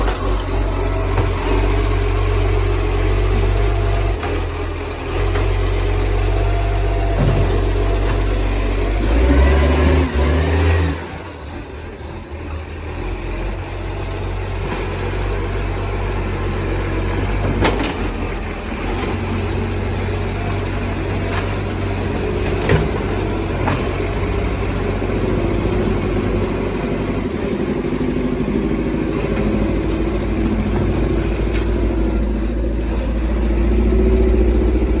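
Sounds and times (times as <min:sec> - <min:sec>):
diesel truck engine revving: 0:00.0 - 0:35.0.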